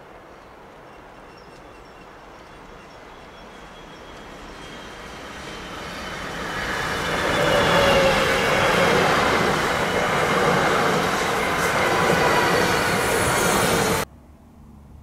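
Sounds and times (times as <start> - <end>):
electric train passing: 0.0 - 14.1.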